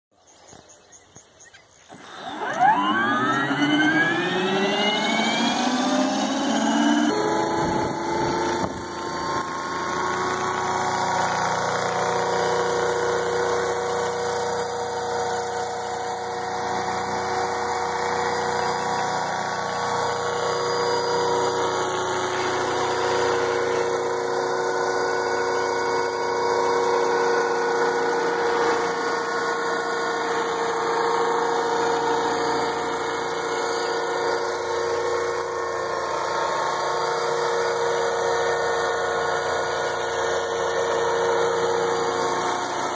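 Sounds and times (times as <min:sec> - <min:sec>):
model helicopter rotors whining: 0:00.2 - 0:42.9.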